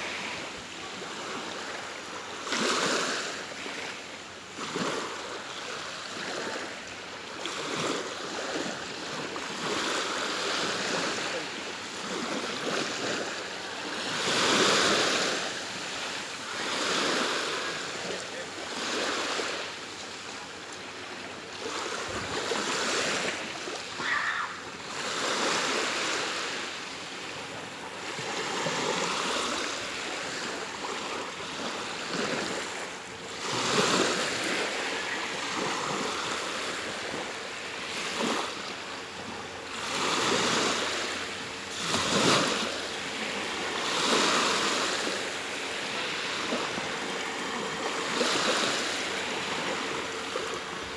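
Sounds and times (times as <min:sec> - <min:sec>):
sea waves breaking on shore: 0:00.0 - 0:50.9.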